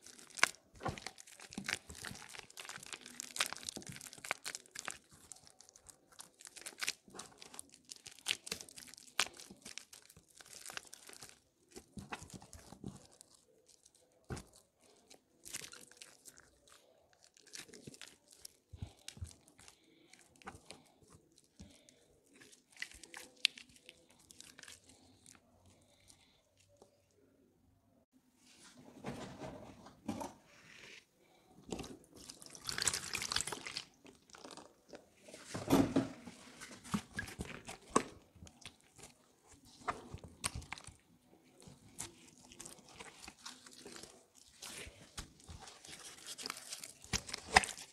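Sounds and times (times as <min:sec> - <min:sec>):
wet soap crunching and crackling: 0:00.0 - 0:27.3, 0:31.2 - 0:47.9.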